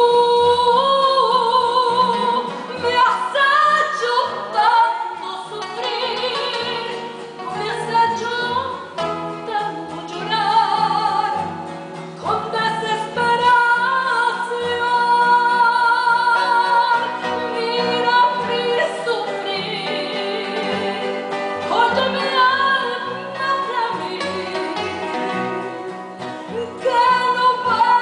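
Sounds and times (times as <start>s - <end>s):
acoustic guitar: 0.0s - 28.0s
woman singing: 0.0s - 28.0s.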